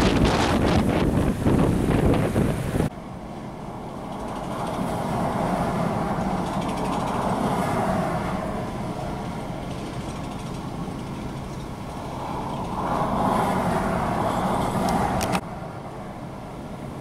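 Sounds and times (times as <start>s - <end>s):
highway traffic passing: 0.0s - 17.0s.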